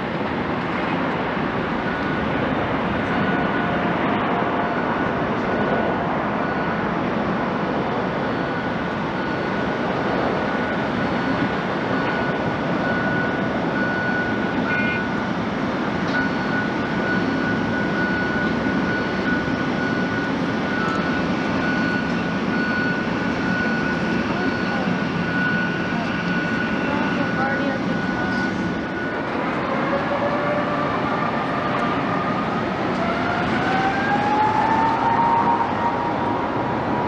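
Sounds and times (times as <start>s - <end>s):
jet engines whining: 0.0s - 37.0s.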